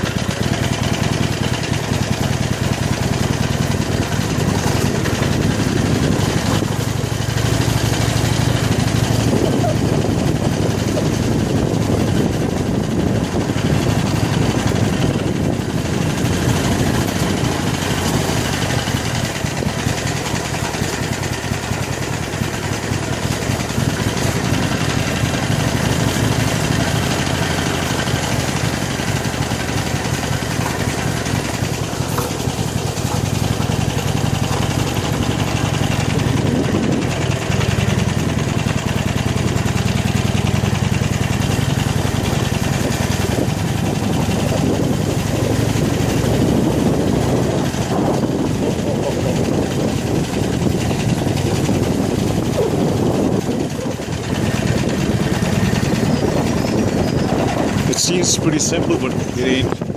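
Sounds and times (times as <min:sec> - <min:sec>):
motorcycle engine running at low revs: 0:00.0 - 0:59.9.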